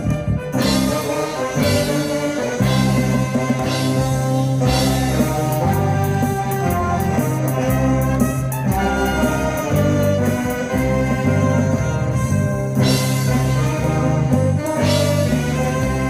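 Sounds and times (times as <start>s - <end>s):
band playing held melody: 0.0s - 16.0s.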